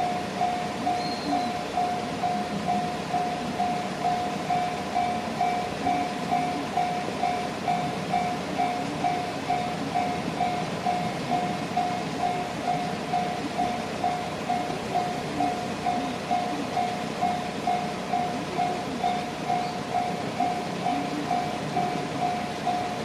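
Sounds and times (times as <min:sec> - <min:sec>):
level crossing warning bell: 0:00.0 - 0:23.0
train rumbling: 0:00.0 - 0:23.0.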